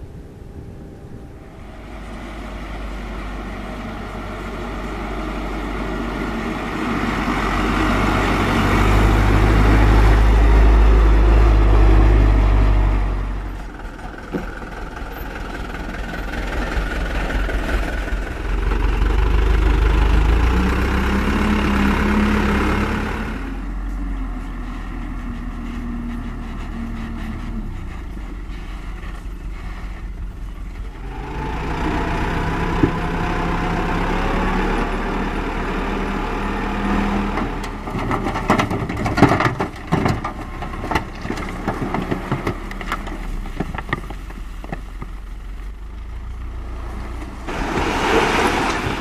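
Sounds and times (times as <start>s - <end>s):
dump truck diesel engine: 0.0s - 49.0s.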